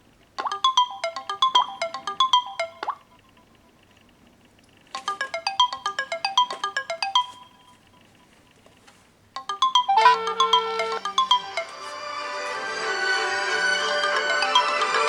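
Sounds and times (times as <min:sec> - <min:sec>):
phone ringtone melody: 0:00.4 - 0:03.6, 0:05.0 - 0:08.3, 0:09.4 - 0:15.0.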